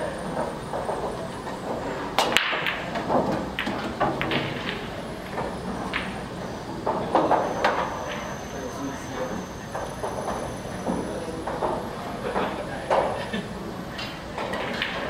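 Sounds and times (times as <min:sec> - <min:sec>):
pool balls clacking: 0:00.0 - 0:13.2, 0:13.8 - 0:15.0
room noise: 0:00.0 - 0:15.0.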